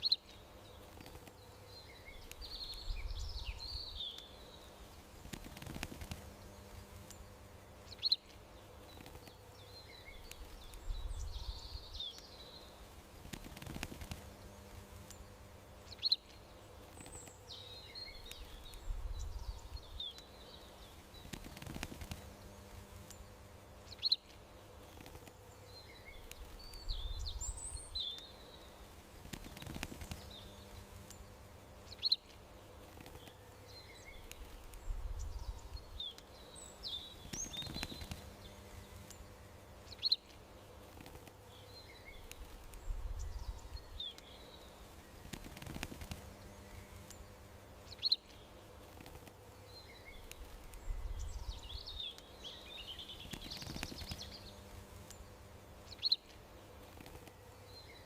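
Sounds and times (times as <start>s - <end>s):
faint steady hum: 0.0s - 58.0s
small birds chirping: 0.0s - 58.0s.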